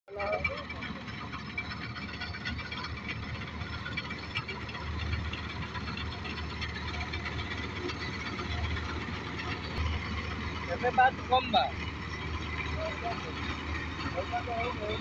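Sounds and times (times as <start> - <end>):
combine harvester working: 0.1 - 15.0.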